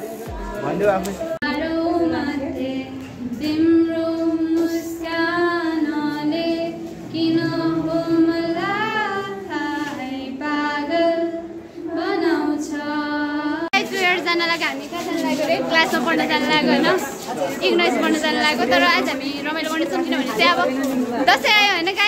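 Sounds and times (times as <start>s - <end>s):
girl singing unaccompanied: 0.0s - 22.0s.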